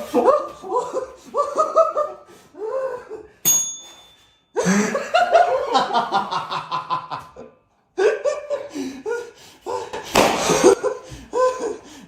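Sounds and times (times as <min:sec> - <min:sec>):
people laughing: 0:00.0 - 0:03.3, 0:04.6 - 0:12.0.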